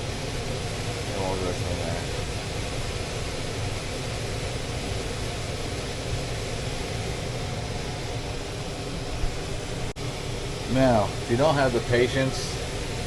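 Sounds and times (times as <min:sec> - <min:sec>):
hvac system humming: 0:00.0 - 0:13.0.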